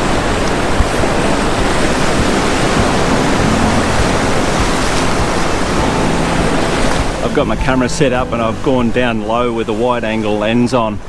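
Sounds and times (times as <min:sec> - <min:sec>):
ocean surf over rocks: 0:00.0 - 0:11.0.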